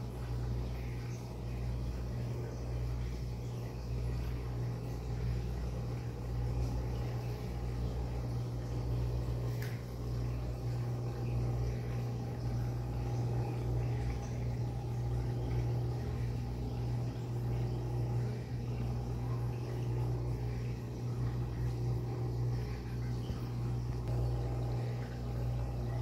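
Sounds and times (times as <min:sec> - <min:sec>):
aquarium pump humming: 0:00.0 - 0:26.0.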